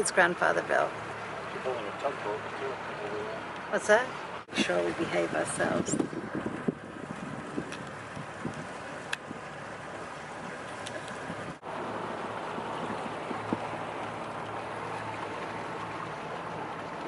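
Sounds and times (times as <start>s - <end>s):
motorboat engine drone: 0.0s - 17.0s
rushing water: 0.0s - 17.0s.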